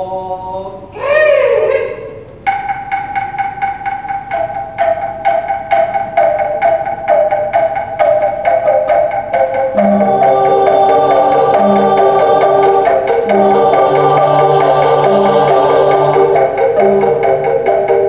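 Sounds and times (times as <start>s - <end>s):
bamboo percussion tubes struck: 2.1s - 18.0s.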